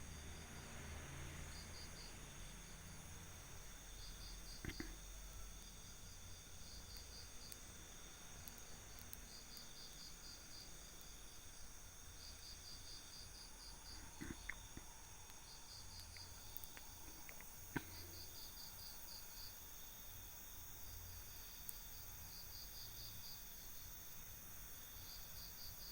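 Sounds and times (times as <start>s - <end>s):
crickets chirping: 0.0s - 25.9s
high insect drone: 0.0s - 25.9s.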